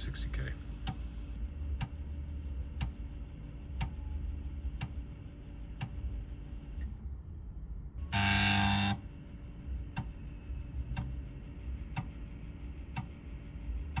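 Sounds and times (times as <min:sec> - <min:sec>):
disk drive stepper motor buzzing: 0:00.6 - 0:06.9, 0:08.0 - 0:14.0
disk drive head ticking: 0:00.8 - 0:06.9, 0:08.8 - 0:14.0.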